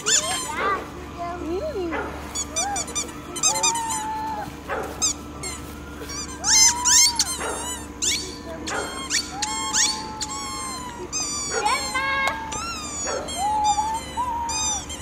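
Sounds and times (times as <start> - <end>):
dog high squeaks: 0.0 - 0.8, 2.4 - 4.1, 5.0 - 15.0
dog whining: 0.0 - 0.8, 1.7 - 15.0.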